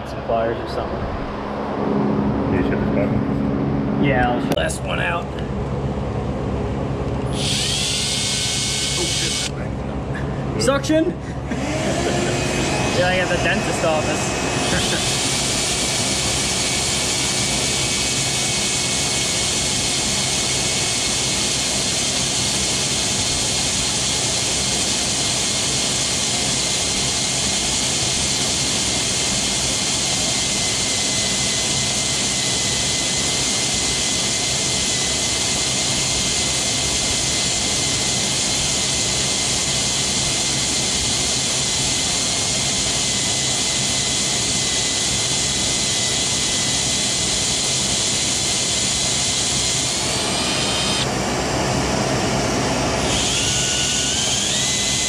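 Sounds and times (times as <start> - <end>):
power drill whining: 7.2 - 9.6, 11.4 - 55.0.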